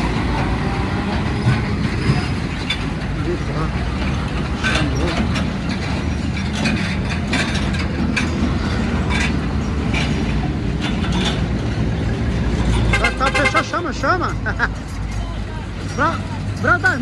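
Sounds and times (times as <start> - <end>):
clattering knocks: 0.0 - 17.0
heavy truck rumbling: 0.0 - 17.0.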